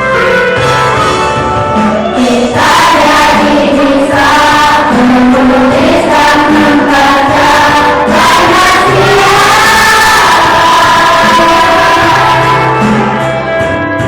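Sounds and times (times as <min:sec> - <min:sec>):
choir singing sustained notes: 0:01.8 - 0:13.6.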